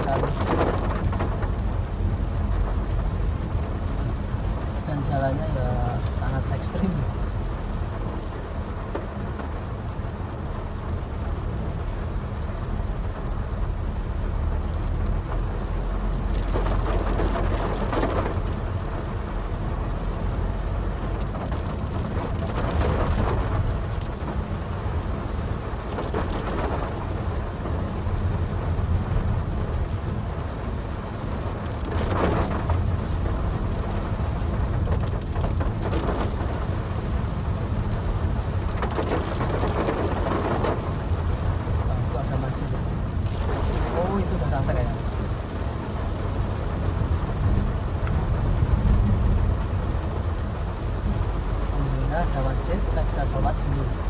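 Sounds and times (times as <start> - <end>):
engine and tyres on wet road: 0.0 - 54.0
rain on car: 0.0 - 54.0.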